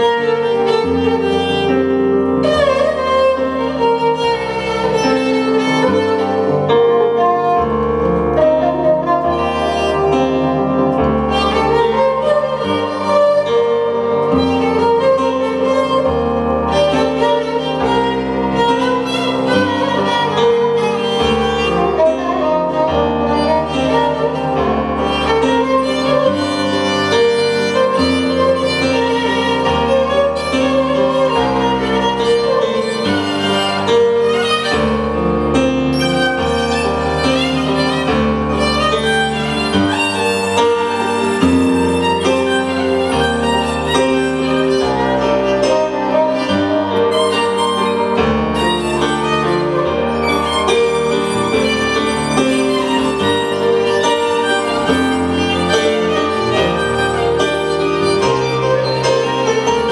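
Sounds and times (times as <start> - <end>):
bowed spiked fiddle melody: 0.0 - 59.9
low sustained bass notes: 0.0 - 59.9.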